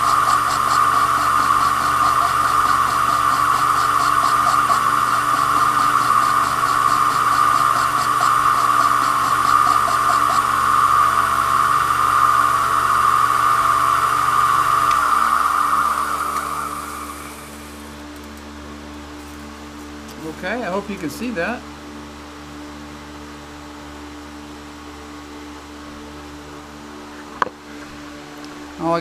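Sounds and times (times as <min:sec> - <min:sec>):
lathe motor whine: 0:00.0 - 0:29.0.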